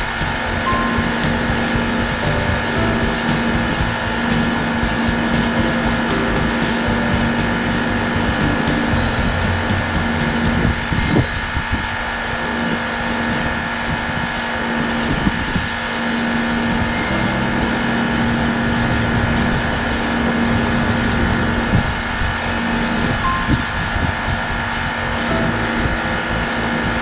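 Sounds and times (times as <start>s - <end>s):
pressure washer spraying concrete: 0.0s - 27.0s.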